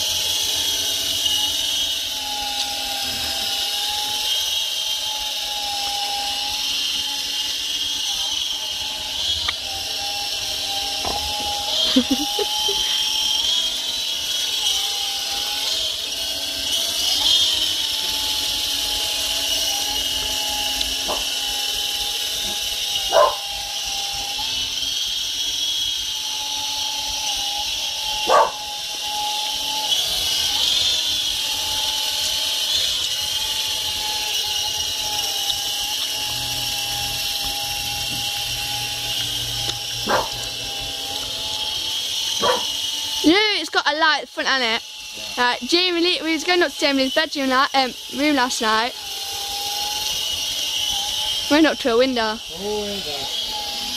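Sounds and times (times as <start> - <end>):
toy helicopter motor whining: 0.0 - 53.9.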